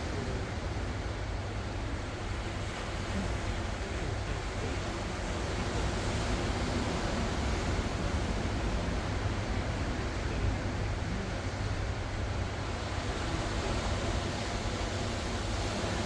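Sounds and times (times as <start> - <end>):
ocean waves on shore: 0.0 - 16.0.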